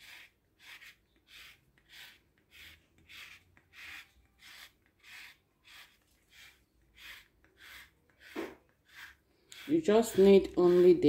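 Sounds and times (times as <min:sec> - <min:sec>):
peel scraping on grater: 0:00.0 - 0:11.0.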